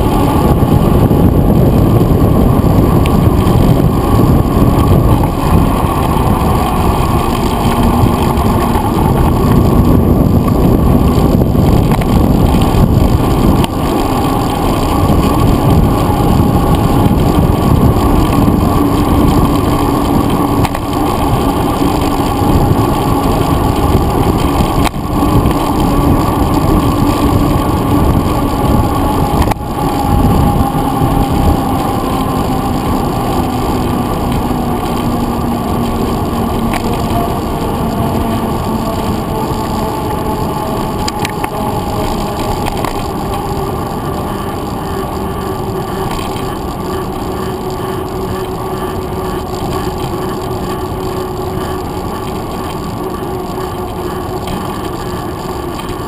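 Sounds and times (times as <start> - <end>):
bike road vibration: 0.0 - 56.0
tyres humming on asphalt: 0.0 - 56.0
wind rumble: 0.0 - 56.0.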